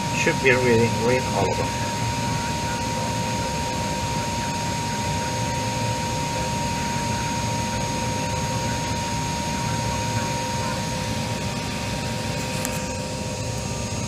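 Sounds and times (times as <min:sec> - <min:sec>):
cockpit hum and rush: 0:00.0 - 0:14.0
constant high whine: 0:00.0 - 0:14.0.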